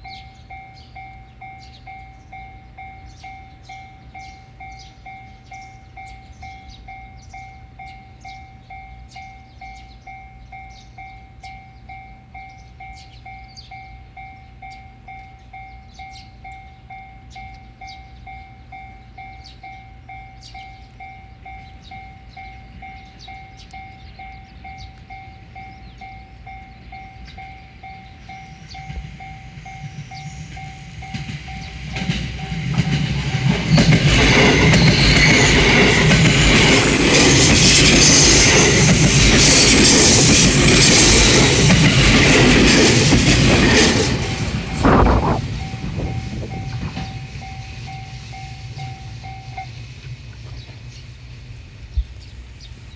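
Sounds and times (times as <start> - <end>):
level crossing bell ringing: 0.0 - 38.8, 44.0 - 49.8
electric train passing: 0.0 - 52.9.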